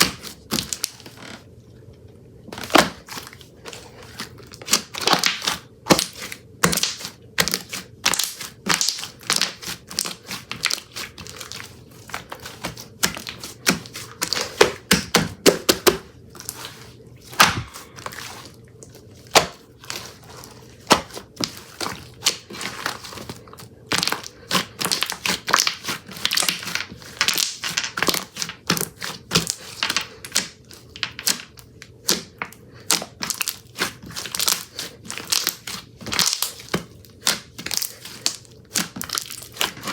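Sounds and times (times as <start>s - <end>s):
slime crackling and popping: 0.0s - 1.4s, 4.2s - 39.9s.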